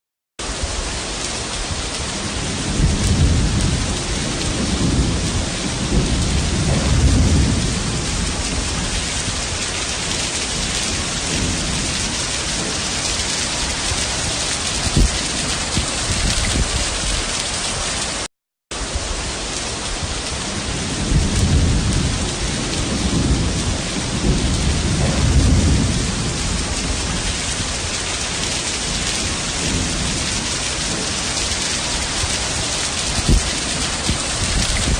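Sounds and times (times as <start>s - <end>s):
heavy rain pouring: 0.4s - 34.9s
low rolls of thunder: 0.5s - 18.2s, 18.8s - 34.9s.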